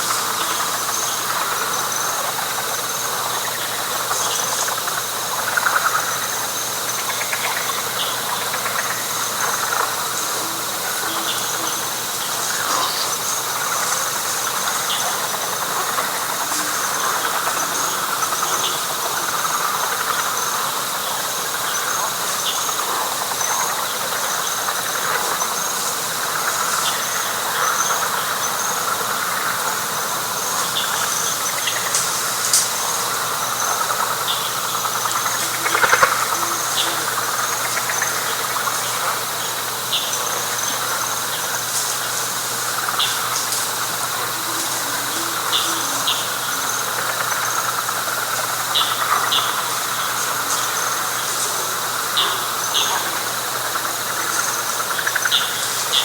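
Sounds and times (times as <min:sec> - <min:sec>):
frogs trilling: 0:00.0 - 0:56.0.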